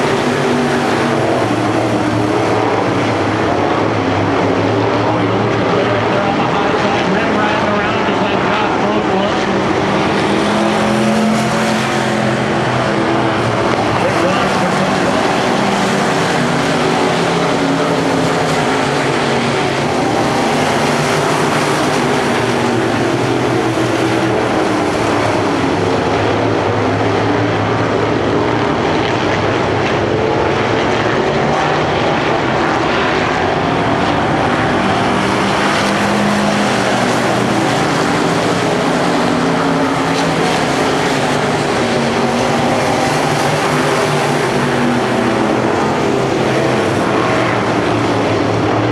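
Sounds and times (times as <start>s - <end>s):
race car engines droning: 0.0s - 48.9s.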